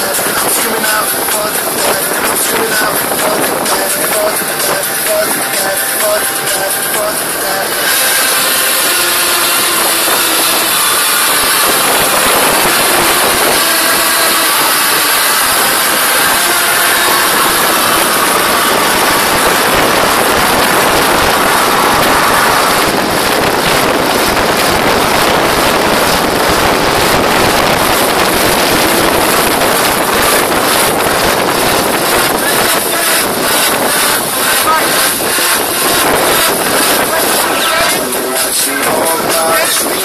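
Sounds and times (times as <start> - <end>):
motorboat engine: 0.0 - 40.0
wind and water rushing: 0.0 - 40.0
wind buffeting microphone: 0.0 - 40.0.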